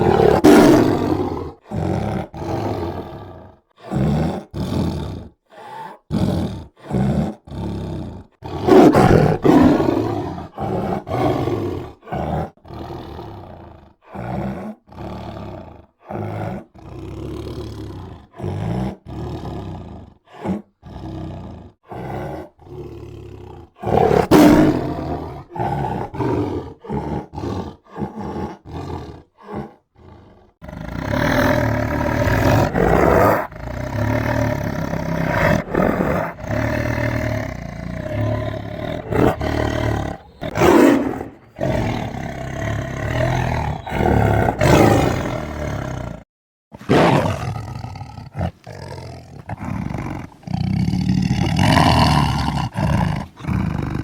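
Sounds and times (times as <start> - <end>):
tiger roaring: 0.0 - 54.0.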